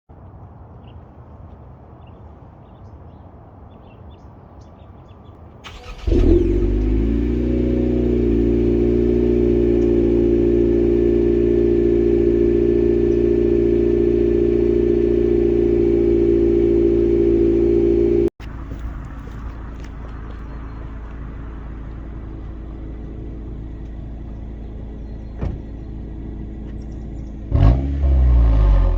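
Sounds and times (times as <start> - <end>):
car engine cranking: 5.6 - 28.9
car engine idling: 5.7 - 28.9.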